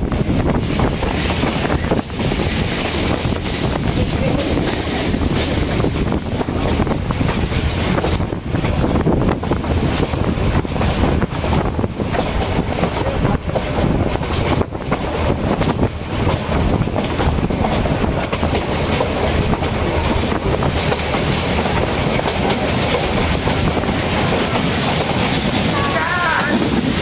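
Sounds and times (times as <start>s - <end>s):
train running noise: 0.0s - 27.0s
train wheels clattering over rails: 0.0s - 27.0s.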